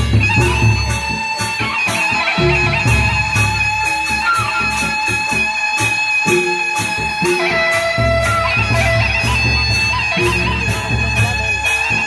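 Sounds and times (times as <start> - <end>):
bamboo flute melody: 0.0 - 12.0
cymbal clashes: 0.0 - 12.0
heavy low drum beats: 0.0 - 12.0.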